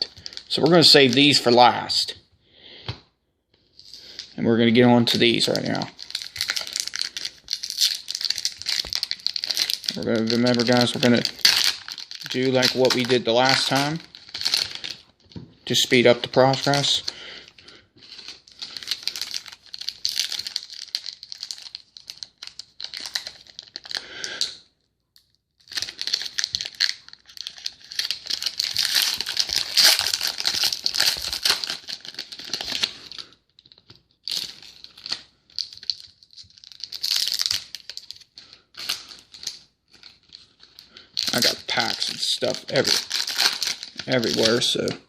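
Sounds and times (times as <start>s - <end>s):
wrappers crinkling and tearing: 0.0s - 2.0s, 5.1s - 24.5s, 25.6s - 45.0s.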